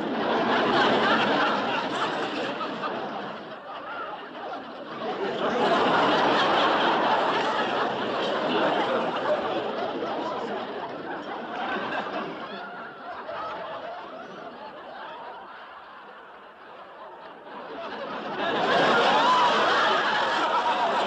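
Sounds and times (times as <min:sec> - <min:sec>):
people laughing and giggling: 0:00.0 - 0:21.0.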